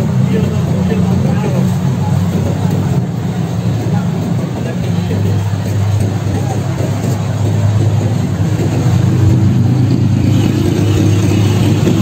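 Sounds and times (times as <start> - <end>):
street traffic: 0.0 - 12.0
vehicle engine running close by: 0.0 - 12.0.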